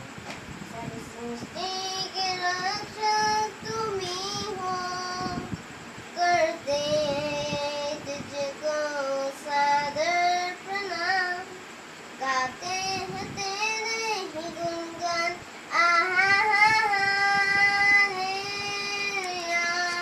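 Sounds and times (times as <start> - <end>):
boy singing devotional song: 0.6 - 20.0.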